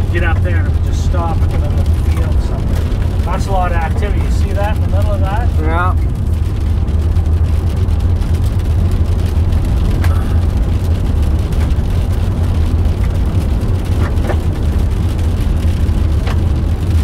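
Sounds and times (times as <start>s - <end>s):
car rumbling on rough road: 0.0s - 17.0s.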